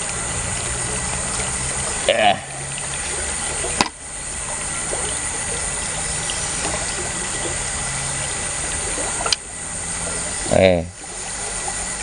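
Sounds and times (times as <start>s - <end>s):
water running through culvert: 0.0s - 12.0s.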